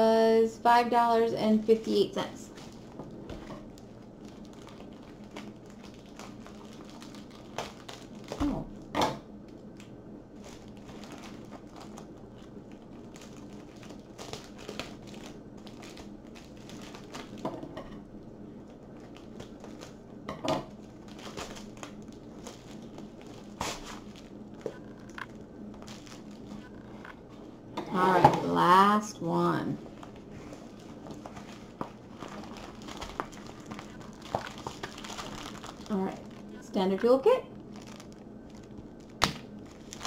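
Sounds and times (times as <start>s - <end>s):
plastic package crinkling: 2.5s - 17.6s, 18.6s - 20.1s, 20.7s - 27.2s, 29.8s - 40.0s.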